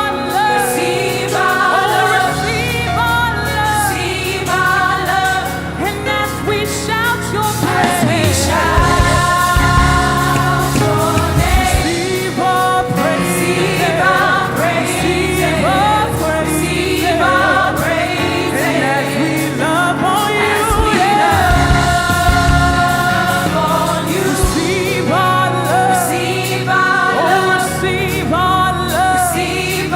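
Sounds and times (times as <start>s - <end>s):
group singing gospel: 0.0s - 29.9s
instrumental backing with bass: 0.0s - 29.9s.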